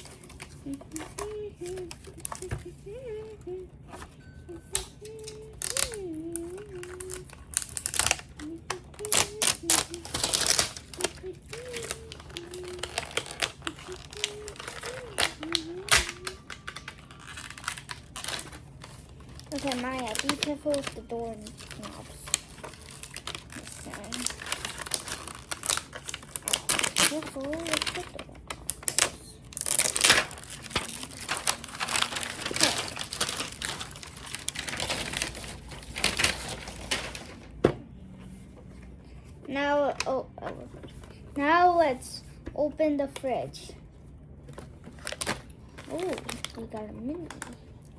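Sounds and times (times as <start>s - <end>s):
plastic rustling: 0.0s - 47.9s.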